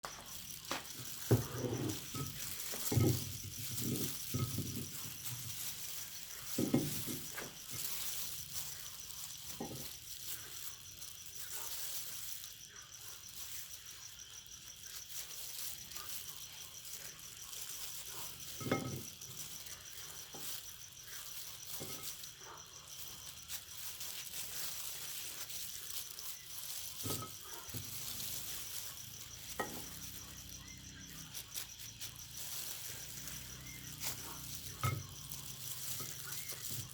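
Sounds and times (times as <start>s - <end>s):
meat grinder rattling: 0.0s - 36.9s.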